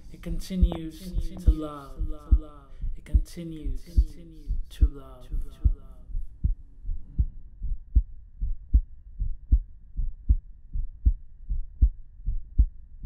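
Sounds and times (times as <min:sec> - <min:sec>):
heartbeat: 0:00.2 - 0:13.0.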